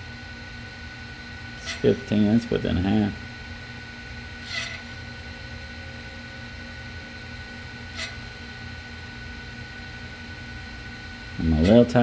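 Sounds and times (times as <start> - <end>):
shop machinery humming: 0.0 - 12.0.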